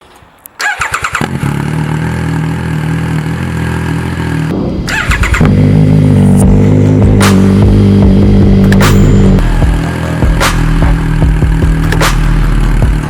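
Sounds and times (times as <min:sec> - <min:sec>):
motorcycle engine idling: 0:01.1 - 0:13.0.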